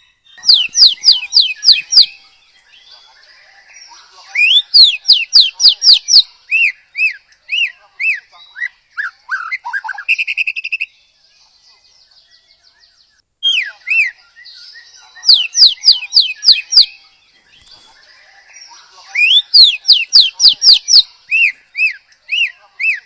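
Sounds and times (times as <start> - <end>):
bird singing whistles and trills: 0.0 - 23.0.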